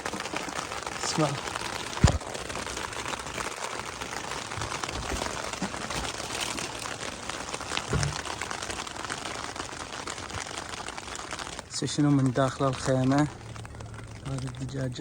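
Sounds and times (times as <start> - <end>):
rain pattering on a tent: 0.0 - 15.0.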